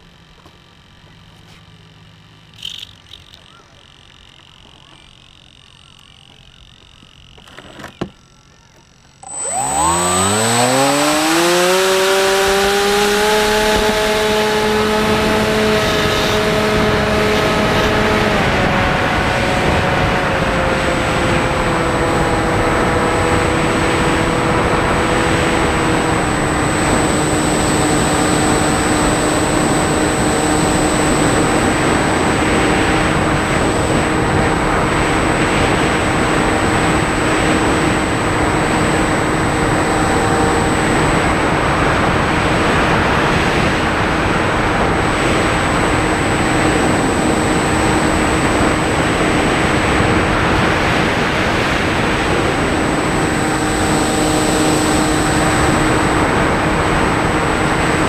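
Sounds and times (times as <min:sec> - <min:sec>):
model airplane motor drone: 0:00.0 - 0:58.0.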